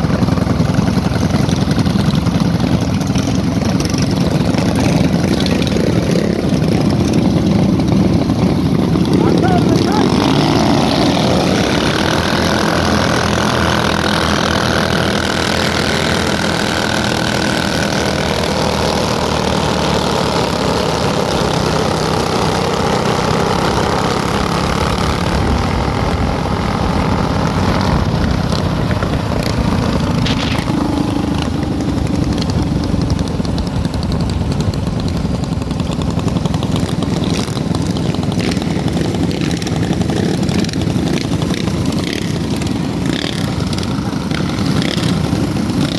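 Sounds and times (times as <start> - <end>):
small motorcycle engines: 0.0 - 45.9.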